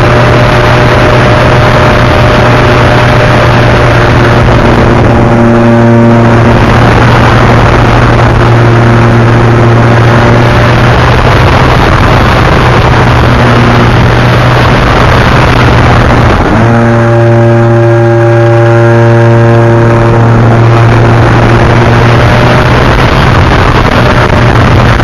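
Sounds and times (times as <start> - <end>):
engine drone: 0.0 - 25.0
higher tones: 0.0 - 25.0.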